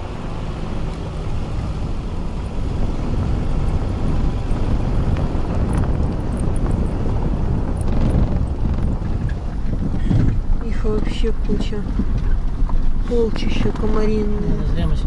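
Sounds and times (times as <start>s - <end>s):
car engine rumble: 0.0s - 15.0s
wind buffeting microphone: 0.0s - 15.0s.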